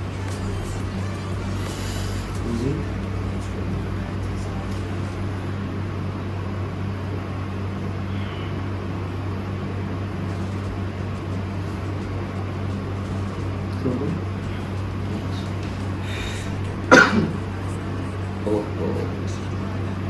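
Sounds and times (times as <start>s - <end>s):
constant hiss: 0.0s - 20.0s
low mechanical hum: 0.0s - 20.0s.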